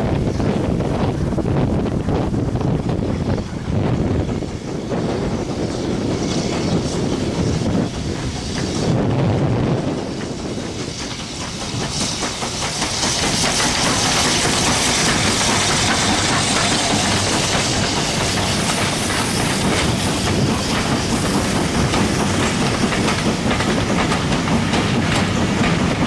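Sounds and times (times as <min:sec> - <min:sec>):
train wheels clattering on rails: 0:00.0 - 0:26.0
wind buffeting microphone: 0:00.0 - 0:26.0
steam hissing: 0:00.2 - 0:26.0.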